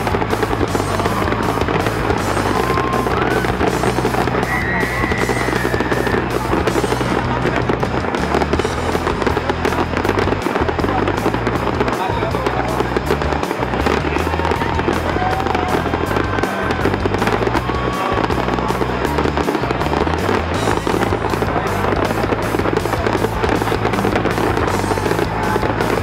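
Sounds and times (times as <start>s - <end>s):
fireworks bursting and crackling: 0.0s - 26.0s
music with steady beat: 0.0s - 26.0s.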